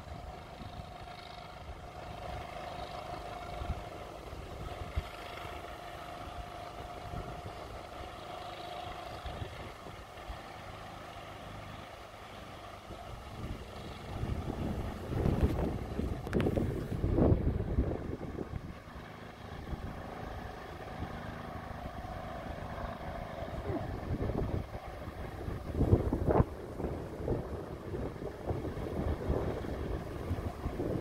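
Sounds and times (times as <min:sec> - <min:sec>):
wind buffeting microphone: 0:00.0 - 0:10.8, 0:12.8 - 0:31.0
distant engine humming: 0:00.0 - 0:31.0.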